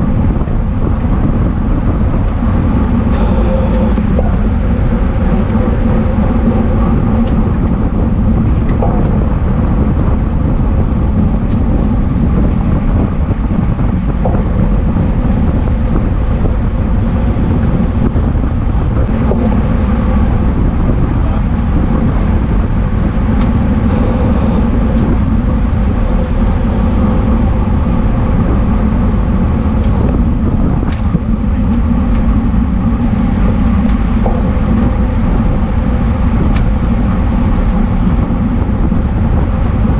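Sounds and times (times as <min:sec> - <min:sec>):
bike tyres rumbling on asphalt: 0:00.0 - 0:39.9
wind rushing over microphone: 0:00.0 - 0:39.9.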